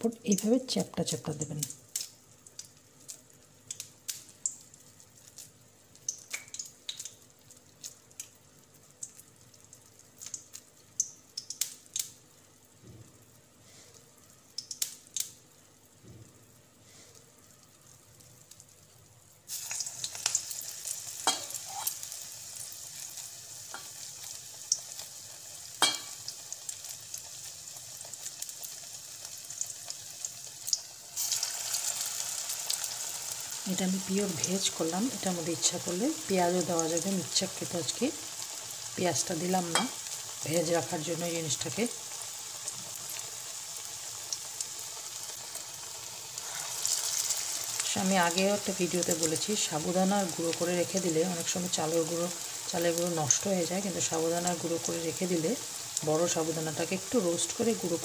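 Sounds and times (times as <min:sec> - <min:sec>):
deep-frying sizzle: 0:00.0 - 0:58.0.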